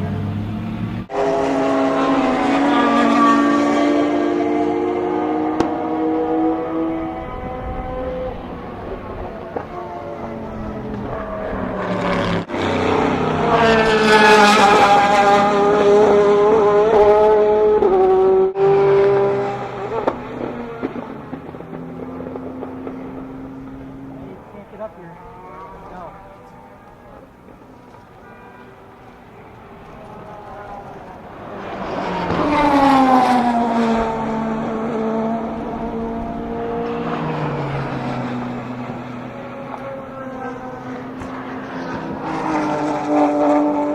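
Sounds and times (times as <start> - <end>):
race car engines: 0.0 - 43.9.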